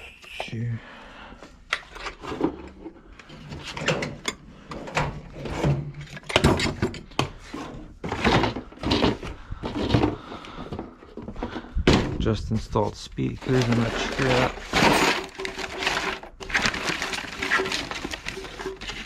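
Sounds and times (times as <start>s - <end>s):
objects knocking and scraping: 1.7s - 19.0s.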